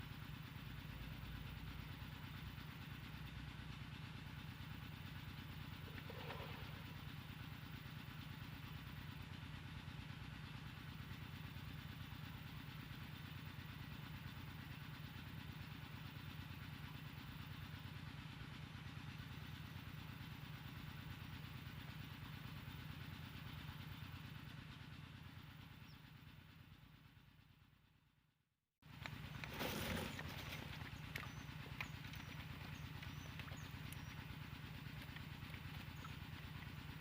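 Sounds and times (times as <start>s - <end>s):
small engine running: 0.0s - 28.1s, 28.8s - 37.0s.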